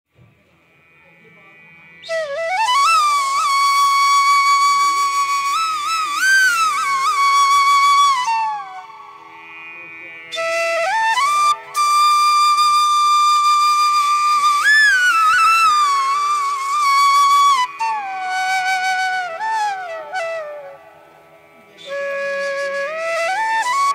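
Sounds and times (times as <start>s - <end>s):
flute music: 2.0s - 9.7s, 10.3s - 23.9s.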